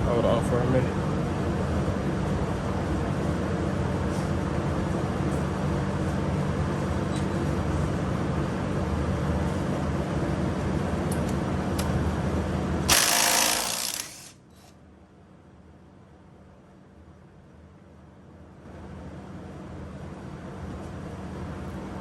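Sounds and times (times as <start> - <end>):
mechanical hum with low drone: 0.0 - 22.0.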